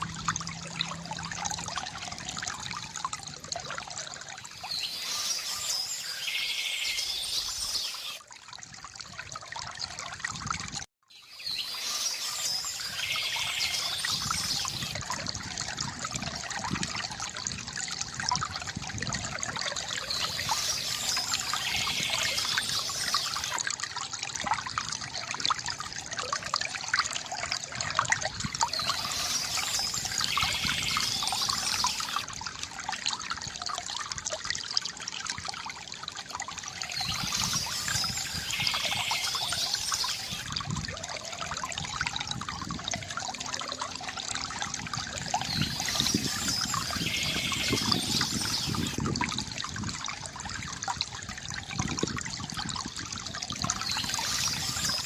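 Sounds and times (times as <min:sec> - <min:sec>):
water trickling into a pool: 0:00.0 - 0:55.0.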